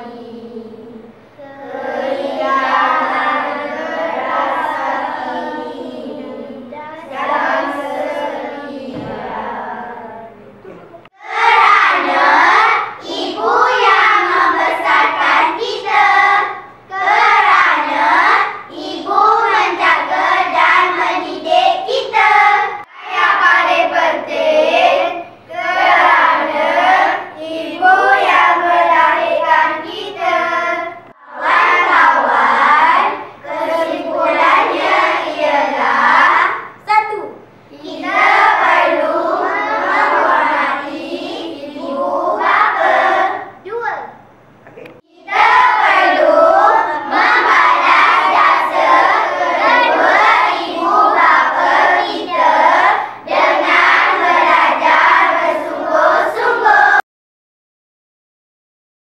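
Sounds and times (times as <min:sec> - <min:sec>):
children chanting in unison: 0:00.0 - 0:10.4, 0:11.1 - 0:36.8, 0:37.7 - 0:43.6, 0:45.1 - 0:57.0.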